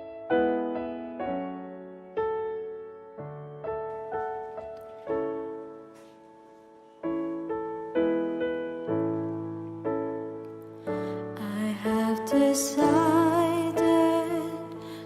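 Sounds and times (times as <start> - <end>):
slow piano playing: 0.0 - 15.0.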